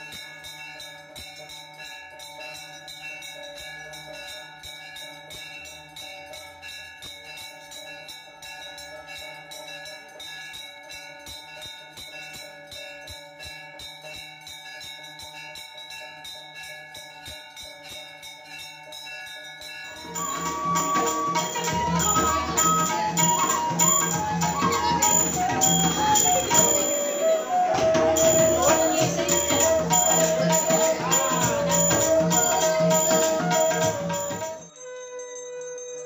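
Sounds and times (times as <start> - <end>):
hand bell ringing rapidly: 0.0 - 35.2.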